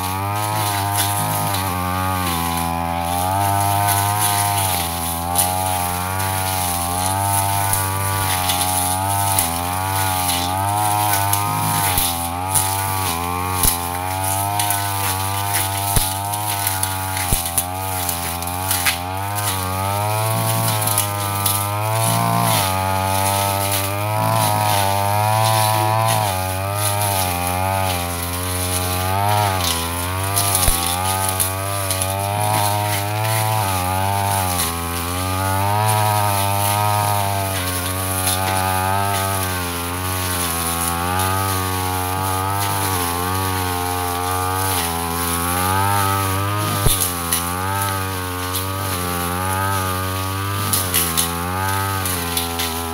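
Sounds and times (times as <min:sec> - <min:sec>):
brush cutter engine running: 0:00.0 - 0:52.9
stems being struck: 0:00.0 - 0:52.9.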